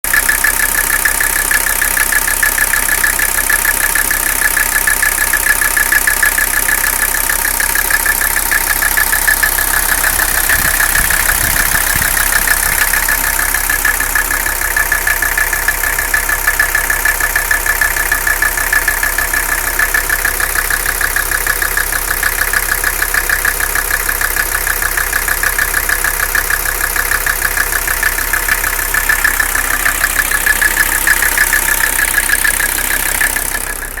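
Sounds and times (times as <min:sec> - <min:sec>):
diesel engine idling rough: 0:00.0 - 0:34.0
rapidly pulsing engine noise: 0:00.1 - 0:34.0.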